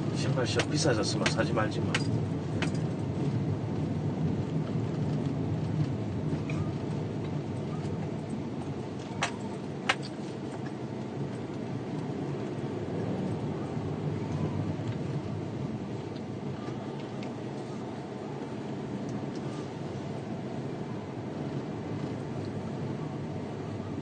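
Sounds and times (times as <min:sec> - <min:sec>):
low rumbling noise: 0:00.0 - 0:24.0.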